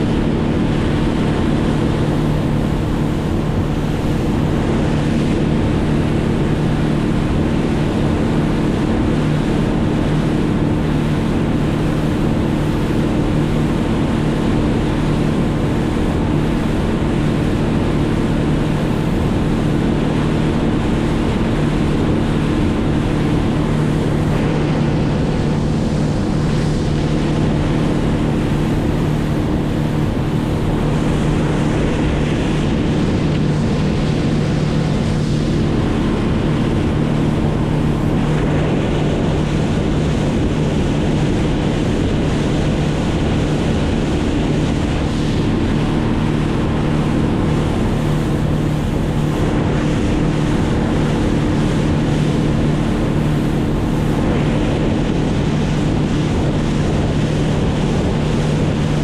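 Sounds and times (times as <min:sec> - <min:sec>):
continuous rushing noise: 0:00.0 - 0:59.0
engine running steadily: 0:00.0 - 0:59.0.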